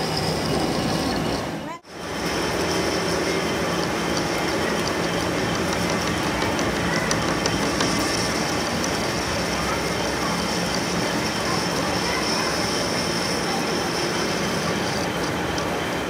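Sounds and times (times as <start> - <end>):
metal lathe cutting steel: 0.0 - 16.0.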